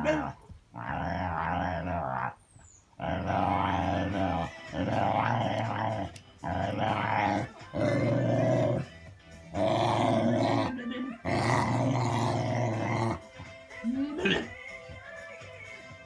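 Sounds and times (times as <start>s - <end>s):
dog growling: 0.0s - 13.6s.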